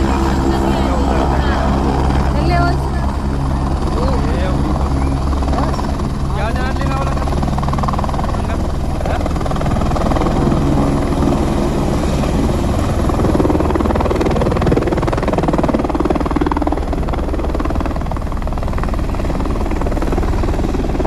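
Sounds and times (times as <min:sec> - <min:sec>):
helicopter rotor chopping: 0:00.0 - 0:21.0
low engine drone: 0:00.0 - 0:21.0.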